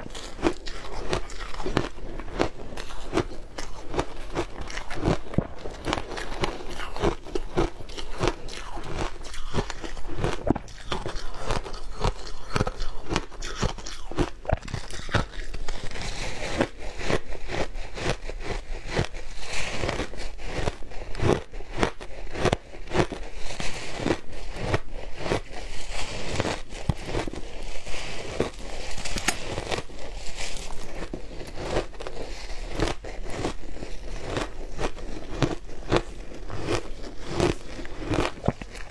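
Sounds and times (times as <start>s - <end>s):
shaved ice being chewed: 0.0s - 38.9s.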